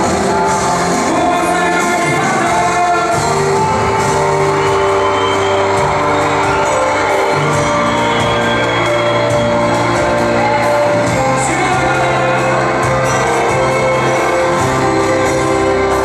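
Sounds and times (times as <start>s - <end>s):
music with singing: 0.0s - 16.0s.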